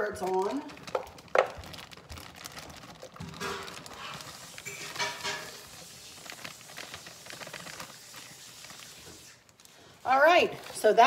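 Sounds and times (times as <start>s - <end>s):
carrots tumbling into roasting pan: 0.0s - 9.4s
plastic bag crinkling: 0.0s - 11.0s.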